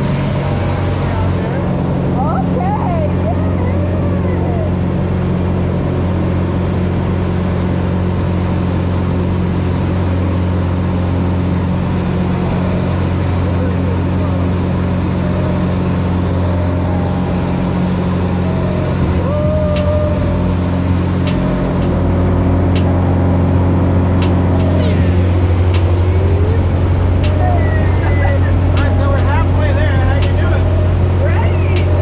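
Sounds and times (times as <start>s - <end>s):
propeller airplane engine droning: 0.0s - 32.0s.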